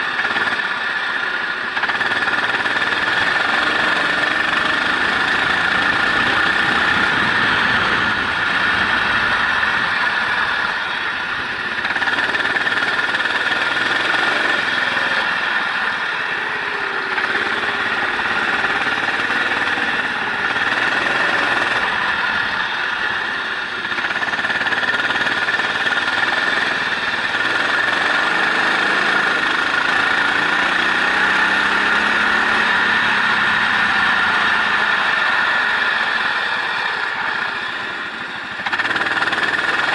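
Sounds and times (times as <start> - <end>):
racing engine accelerating and shifting: 0.0 - 39.9
steady high whine: 0.0 - 39.9.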